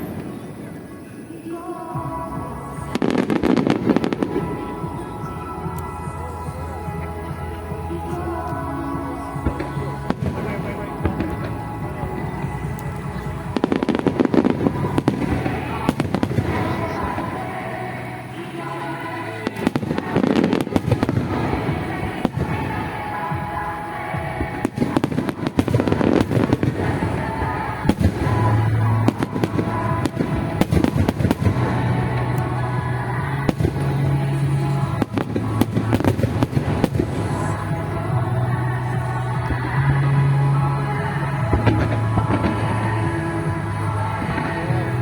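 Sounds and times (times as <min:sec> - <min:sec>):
fireworks bangs and crackles: 0:00.0 - 0:45.0
music: 0:00.0 - 0:45.0.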